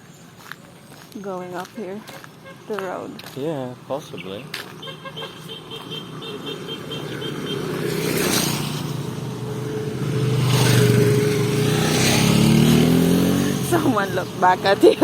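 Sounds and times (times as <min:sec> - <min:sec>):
motor vehicle passing: 0:00.4 - 0:15.0.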